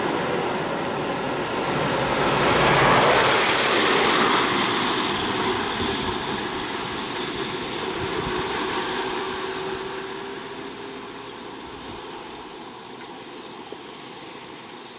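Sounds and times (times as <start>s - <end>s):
lorries driving past: 0.0s - 14.8s.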